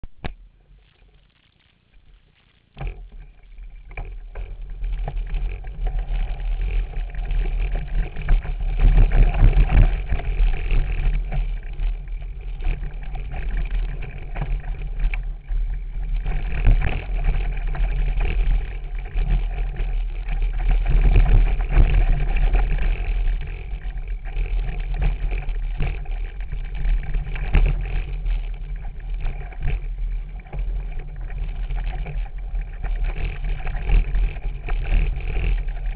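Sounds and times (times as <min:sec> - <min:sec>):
bike rattling on rough trail: 0:00.0 - 0:35.9
wind buffeting microphone: 0:03.5 - 0:35.9.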